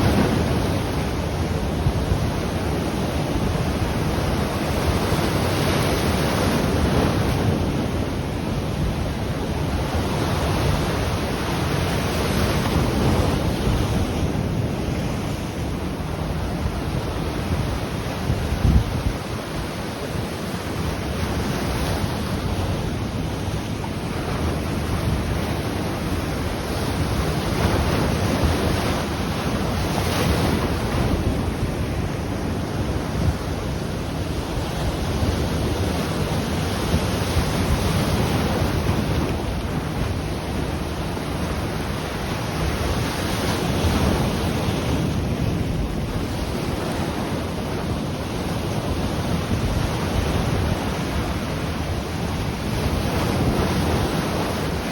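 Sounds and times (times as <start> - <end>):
ocean surf washing: 0.0 - 54.9
wind rumbling on microphone: 0.0 - 54.9.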